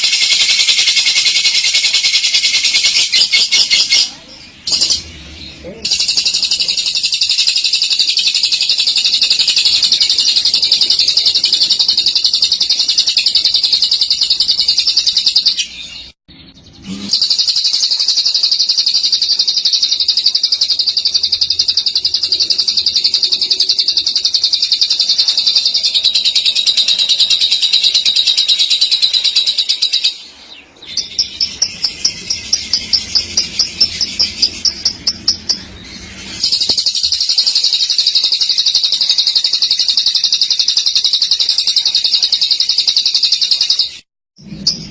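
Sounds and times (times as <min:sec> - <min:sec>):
bird trilling: 0:00.0 - 0:44.0
bird chirping: 0:00.0 - 0:44.9.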